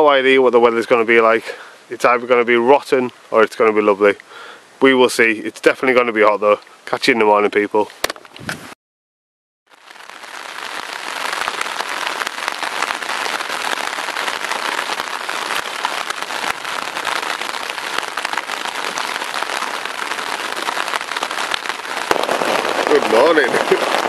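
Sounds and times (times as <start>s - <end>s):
rain on a tent: 0.0s - 8.2s, 9.7s - 24.0s.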